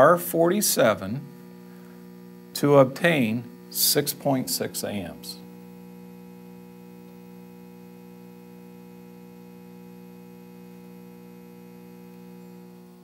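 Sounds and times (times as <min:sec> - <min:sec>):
current regulator humming: 0:00.0 - 0:13.0.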